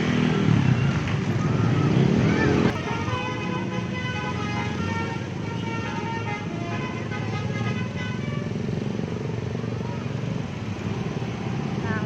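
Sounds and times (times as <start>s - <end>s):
low rumble of vehicle engines: 0.0s - 12.0s.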